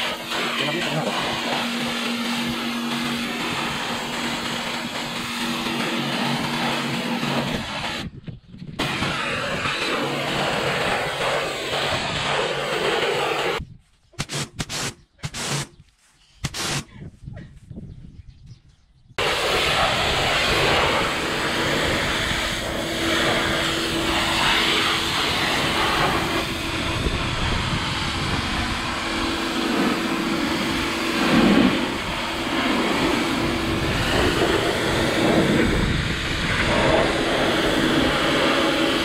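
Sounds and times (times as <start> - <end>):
water spray hissing: 0.0 - 8.0, 8.8 - 13.6, 16.4 - 16.9, 19.2 - 39.0
pressure washer motor hum: 0.0 - 8.1, 8.8 - 13.6, 19.2 - 39.0.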